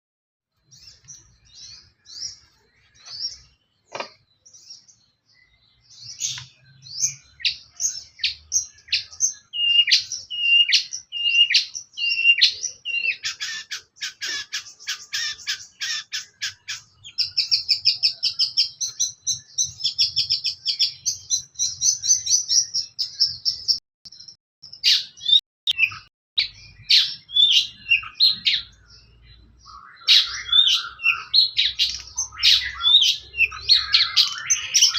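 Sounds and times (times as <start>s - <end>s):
bird singing varied song: 0.5s - 34.9s.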